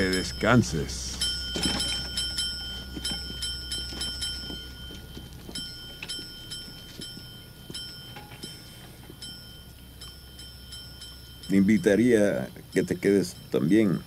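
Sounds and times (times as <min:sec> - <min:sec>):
service bell dinging: 0:00.0 - 0:14.0.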